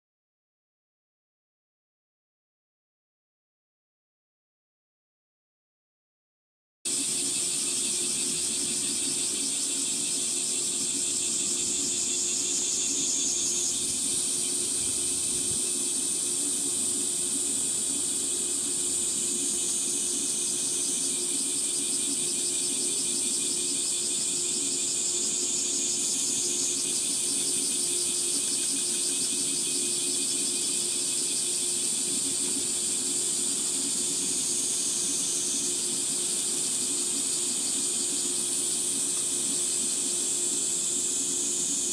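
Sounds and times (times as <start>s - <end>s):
cicadas chorus: 6.9s - 41.9s.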